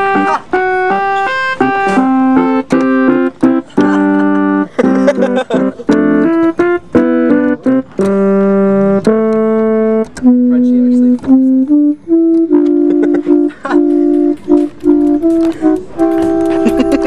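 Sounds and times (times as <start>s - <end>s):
keyboard organ tone tune: 0.0s - 17.0s.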